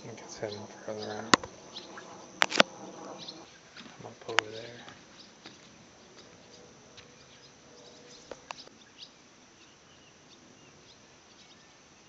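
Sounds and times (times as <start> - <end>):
bird chirps: 0.0 - 12.0
lakeside ambience: 0.0 - 12.0.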